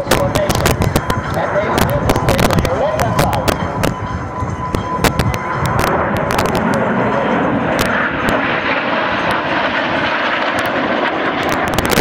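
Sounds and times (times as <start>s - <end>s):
jets passing overhead: 0.0s - 12.0s.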